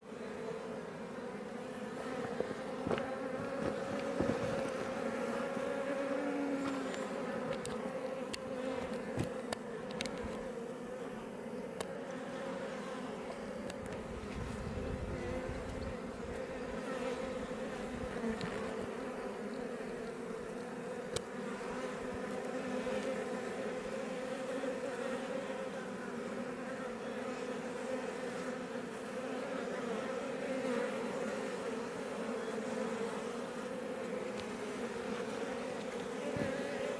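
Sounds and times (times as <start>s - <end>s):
honey bees buzzing: 0.0s - 36.9s.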